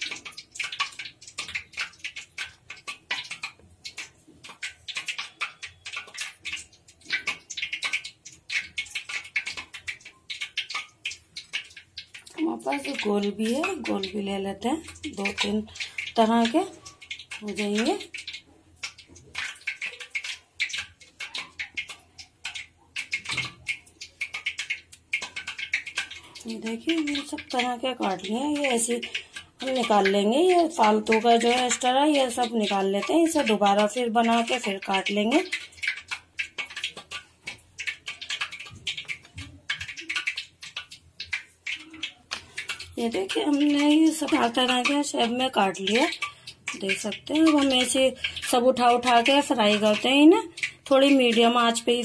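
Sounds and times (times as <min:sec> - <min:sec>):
dough scraps tapping and scraping on wood: 0:00.0 - 0:52.0.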